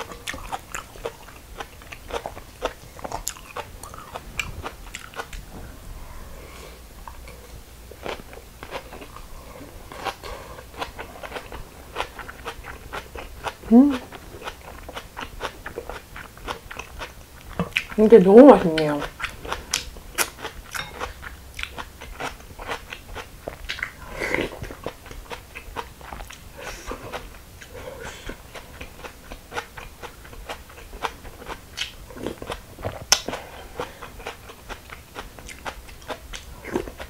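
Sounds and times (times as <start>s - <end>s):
crisp chewing and crunching: 0.0s - 5.6s, 7.1s - 18.0s, 18.8s - 37.0s.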